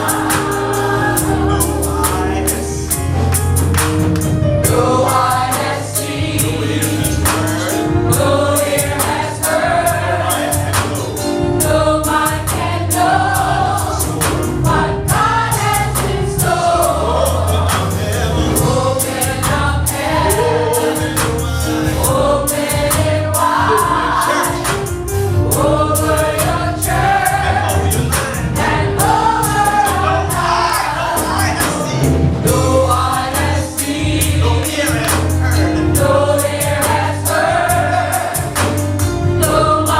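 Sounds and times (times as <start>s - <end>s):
bass: 0.0s - 39.9s
drum beat: 0.0s - 39.9s
gospel choir singing: 0.0s - 39.9s.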